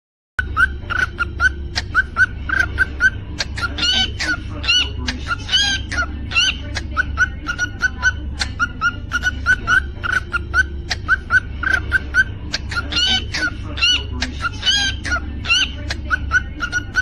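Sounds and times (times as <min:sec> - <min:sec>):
cockatiel chirping and whistling: 0:00.4 - 0:17.0
low steady hum: 0:00.4 - 0:17.0.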